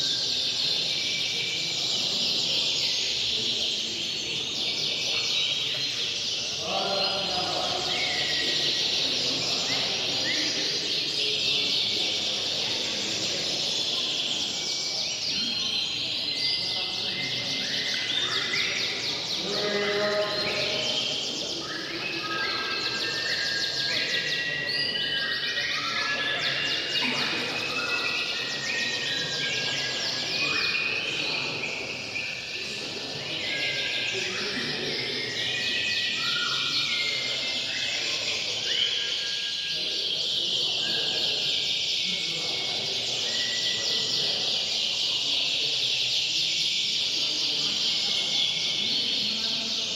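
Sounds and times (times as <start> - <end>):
canaries singing: 0.0 - 49.9
murmur of people: 0.0 - 49.9.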